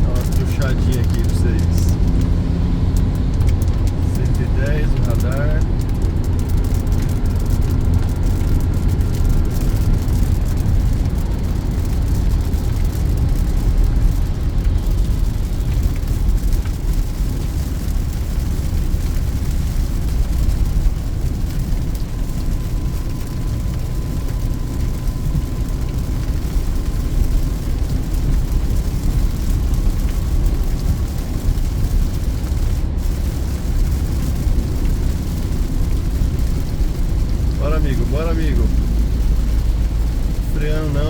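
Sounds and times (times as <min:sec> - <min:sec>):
car cabin road rumble: 0:00.0 - 0:41.0.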